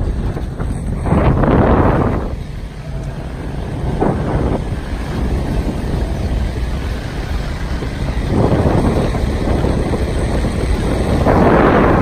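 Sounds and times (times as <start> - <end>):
vehicle rumbling on dirt road: 0.0 - 12.0
wind buffeting microphone: 0.0 - 12.0.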